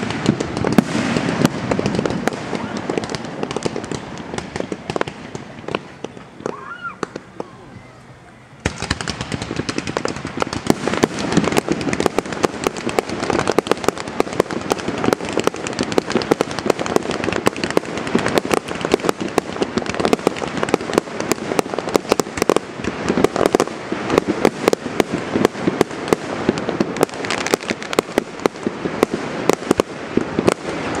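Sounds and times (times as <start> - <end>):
fireworks bangs and crackling: 0.0 - 7.9, 8.5 - 31.0.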